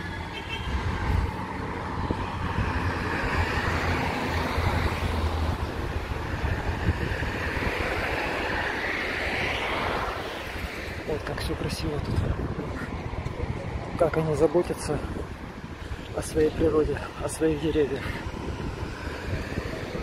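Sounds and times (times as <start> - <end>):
cars driving past: 0.0 - 20.0.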